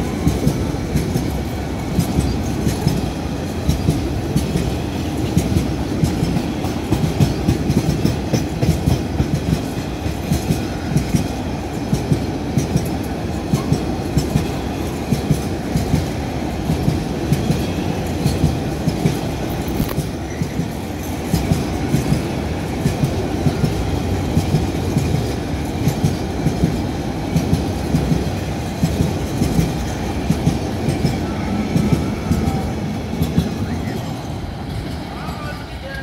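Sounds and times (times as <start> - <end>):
freight train rumbling past: 0.0 - 36.0
wheels clacking on rail joints: 0.0 - 36.0.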